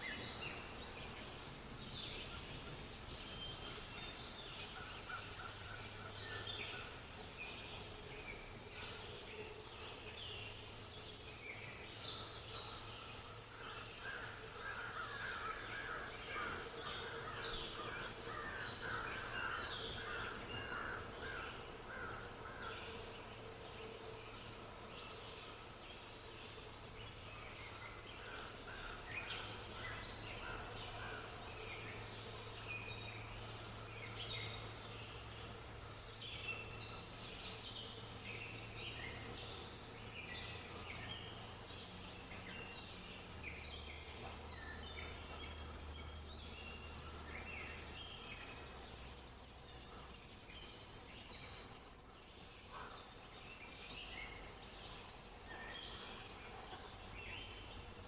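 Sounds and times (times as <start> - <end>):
songbirds chirping chorus: 0.0 - 58.0.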